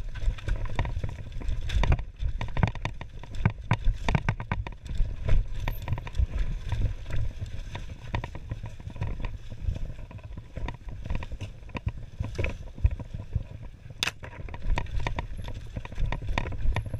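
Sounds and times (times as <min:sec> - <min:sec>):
mountain bike rattling and clicking: 0:00.0 - 0:16.9
wind on microphone: 0:00.0 - 0:16.9.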